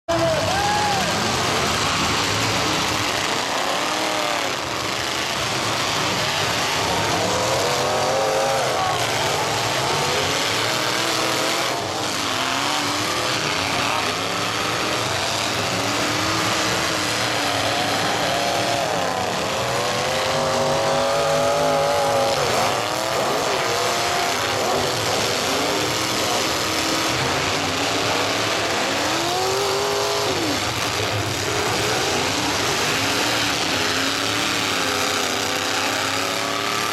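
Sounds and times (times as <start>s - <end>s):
car engines revving: 0.0s - 36.9s.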